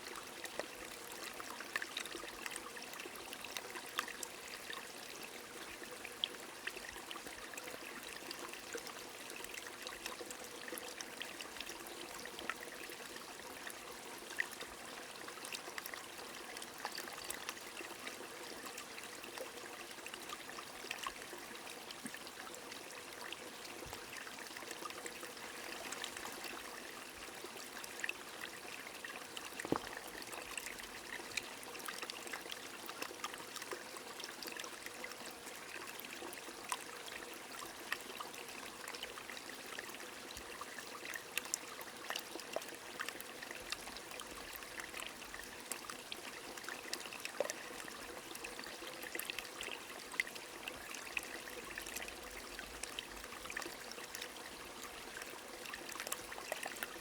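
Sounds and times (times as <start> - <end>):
stream flowing: 0.1 - 57.0.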